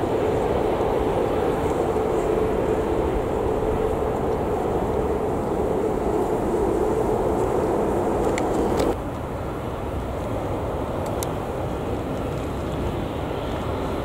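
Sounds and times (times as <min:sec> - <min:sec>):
airliner jet engines roaring: 0:00.0 - 0:14.0
distant jet noise rushing: 0:00.0 - 0:14.0.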